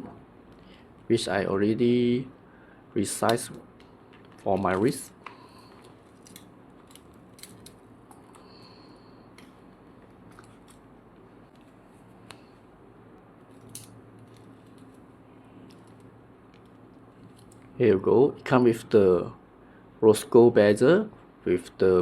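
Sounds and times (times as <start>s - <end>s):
quiet room hum: 0.0s - 22.0s.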